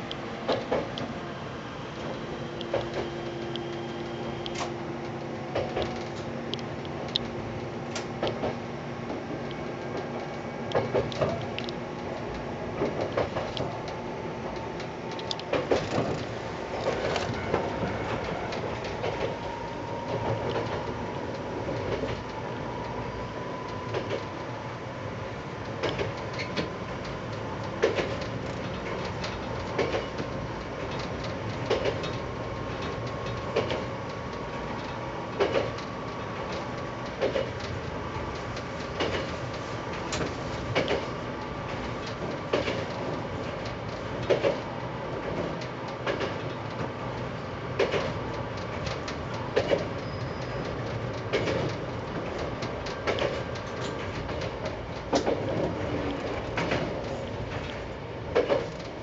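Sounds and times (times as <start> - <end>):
train wheels clacking over rail joints: 0.0 - 1.1, 2.0 - 22.4, 23.7 - 24.3, 25.6 - 59.0.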